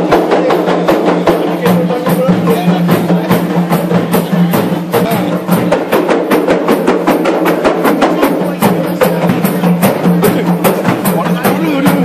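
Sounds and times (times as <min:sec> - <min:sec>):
hand drums beating: 0:00.0 - 0:12.0.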